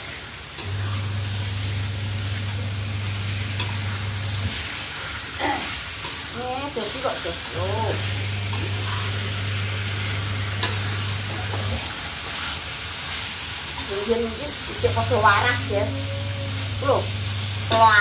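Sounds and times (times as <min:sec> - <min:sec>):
chicken wings sizzling in wok: 0:00.0 - 0:18.0
spatula scraping wok: 0:00.1 - 0:18.0.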